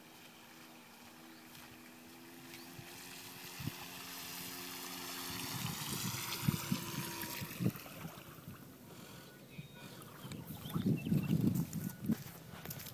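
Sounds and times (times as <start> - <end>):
model boat motor whining: 0.0 - 10.5.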